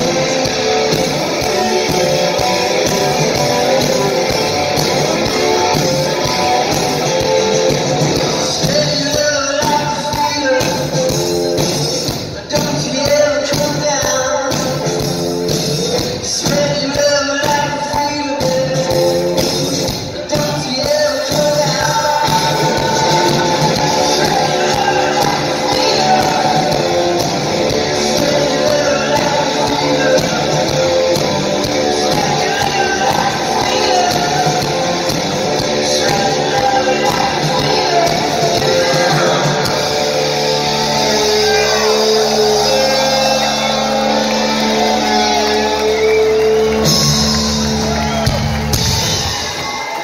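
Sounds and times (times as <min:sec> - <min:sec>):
person singing: 0:00.0 - 0:48.0
electric guitars: 0:00.0 - 0:50.0
live rock band: 0:00.0 - 0:50.0.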